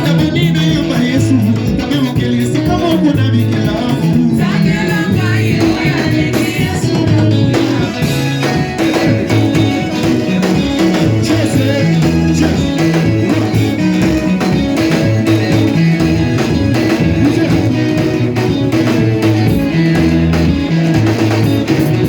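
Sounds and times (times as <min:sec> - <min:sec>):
bass line: 0:00.0 - 0:22.0
guitar: 0:00.0 - 0:22.0
steady drums: 0:00.0 - 0:22.0
worship band music: 0:00.0 - 0:22.0.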